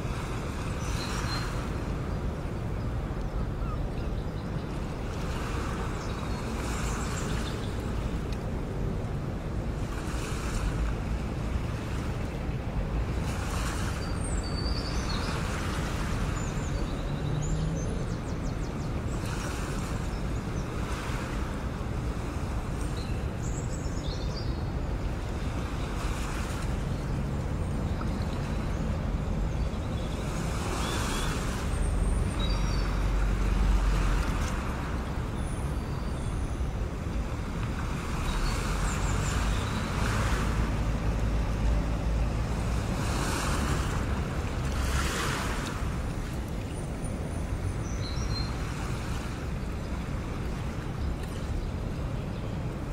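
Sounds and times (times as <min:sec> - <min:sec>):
waves washing: 0:00.0 - 0:52.9
wind rumbling on microphone: 0:00.0 - 0:52.9.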